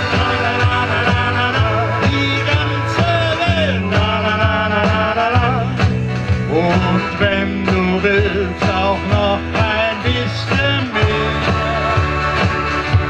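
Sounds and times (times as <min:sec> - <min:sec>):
accordion melody: 0:00.0 - 0:13.0
sustained bass notes: 0:00.0 - 0:13.0
steady beat: 0:01.0 - 0:11.6.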